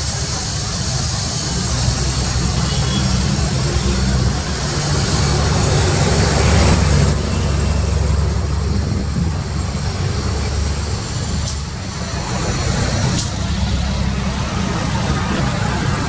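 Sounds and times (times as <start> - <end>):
bus engine drone passing: 0.0 - 16.0
tyre and traffic noise: 0.0 - 16.0.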